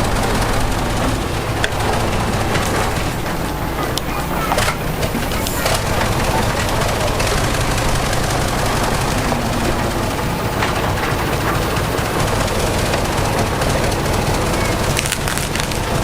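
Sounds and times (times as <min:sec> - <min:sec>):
metallic clanking rattle: 0:00.0 - 0:15.1
diesel machinery running: 0:00.0 - 0:16.0.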